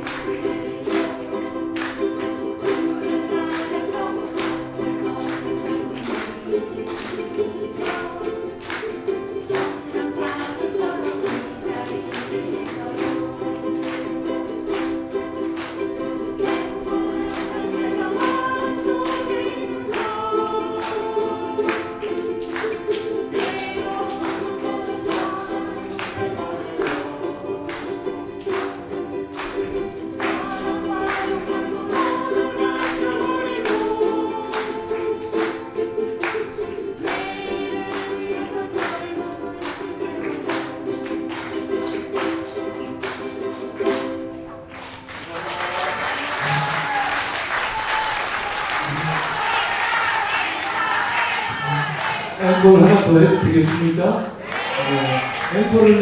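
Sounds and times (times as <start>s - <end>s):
group of voices singing: 0.0s - 44.4s, 45.8s - 56.0s
strummed string instruments: 0.0s - 45.7s, 46.3s - 56.0s.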